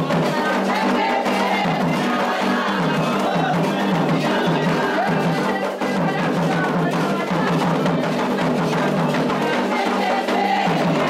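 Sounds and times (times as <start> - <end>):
ritual drumming: 0.0 - 11.0.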